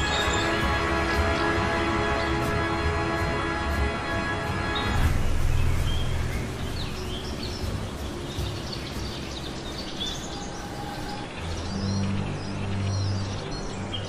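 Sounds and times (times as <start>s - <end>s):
birds chirping: 0.0s - 14.0s
outdoor background noise: 0.0s - 14.0s.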